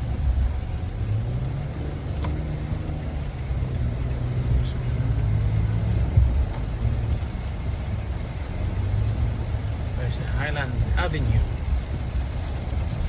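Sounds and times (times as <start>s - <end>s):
car engine and tyres on wet road: 0.0s - 13.0s.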